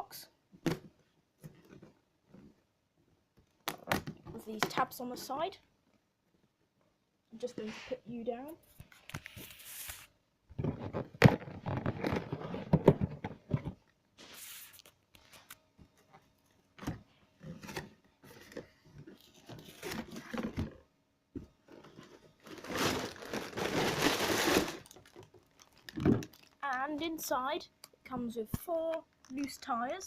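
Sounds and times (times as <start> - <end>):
crinkling and rustling: 0.6 - 6.0, 7.5 - 30.0.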